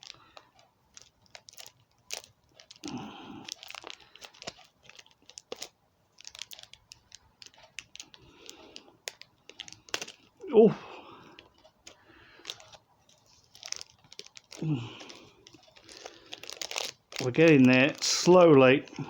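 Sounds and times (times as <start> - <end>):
packaging crinkling and scraping: 0.0 - 19.0.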